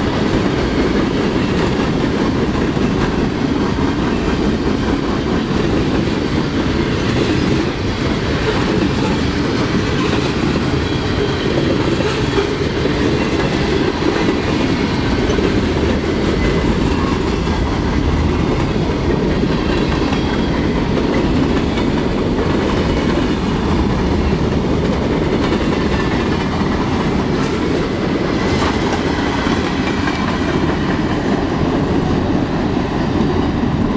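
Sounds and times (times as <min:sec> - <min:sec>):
train wheels rolling on rails: 0:00.0 - 0:33.9.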